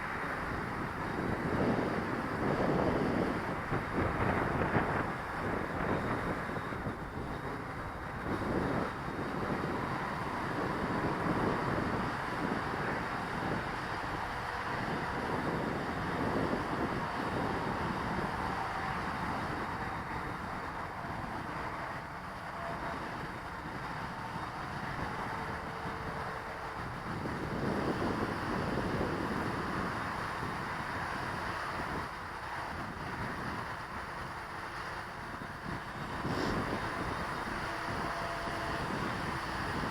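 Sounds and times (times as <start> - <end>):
drone motors whining: 0.0 - 39.9
wind buffeting microphone: 0.0 - 39.9.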